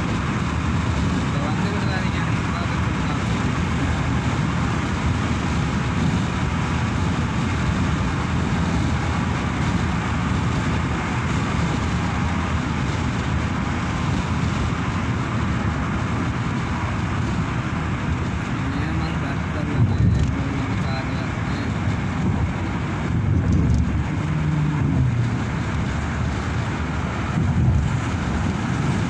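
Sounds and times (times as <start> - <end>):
tyres and engine rumble: 0.0 - 29.0
wind and road noise hiss: 0.0 - 29.0.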